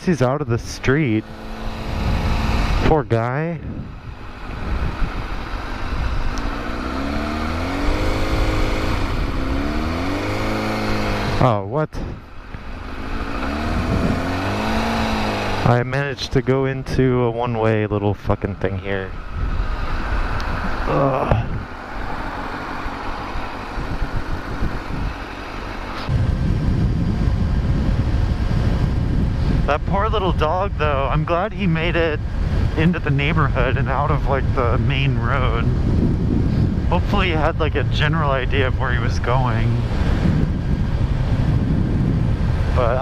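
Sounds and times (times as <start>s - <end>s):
low rumble: 0.0s - 43.0s
motorcycle engine accelerating: 0.0s - 43.0s
riding wind rush: 0.0s - 43.0s.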